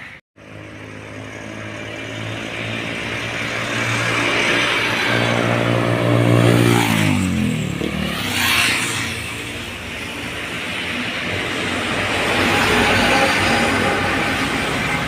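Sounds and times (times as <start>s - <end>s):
heavy truck engine passing: 0.4s - 15.0s.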